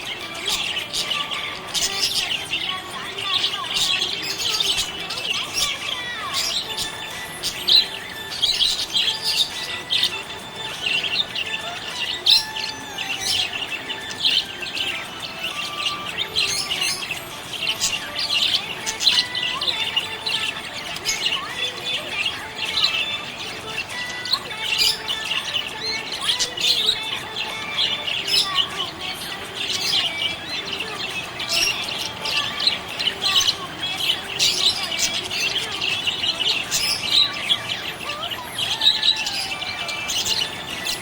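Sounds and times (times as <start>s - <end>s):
parrots chirping and chattering: 0.0s - 41.0s.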